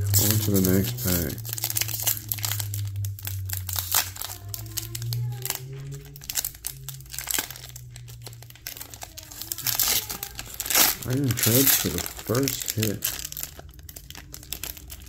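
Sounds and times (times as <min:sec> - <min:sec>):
foil wrapper crinkling and tearing: 0:00.0 - 0:15.0.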